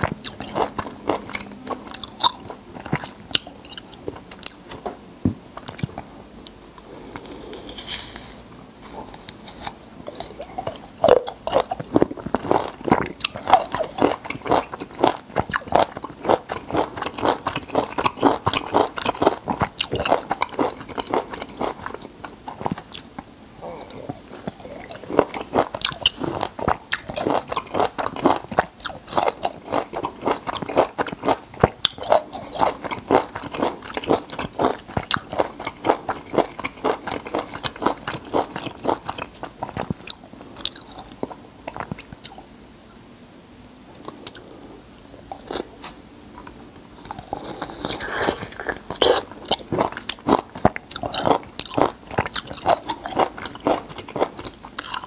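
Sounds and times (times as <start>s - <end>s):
wet chewing of fruit: 0.0s - 4.9s, 5.6s - 42.5s, 45.2s - 55.0s.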